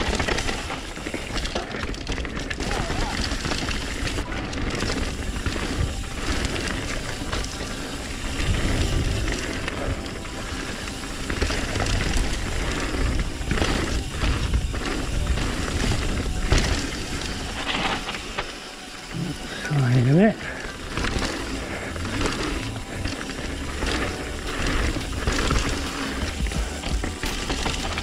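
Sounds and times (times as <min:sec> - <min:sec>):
bike rattling and knocking: 0:00.0 - 0:28.0
tyres crunching over stones: 0:00.0 - 0:28.0.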